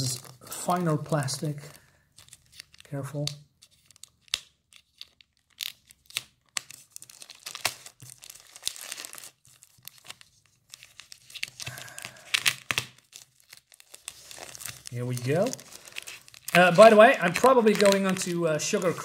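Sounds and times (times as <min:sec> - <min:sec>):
plastic film crinkling and tearing: 0:00.0 - 0:19.0.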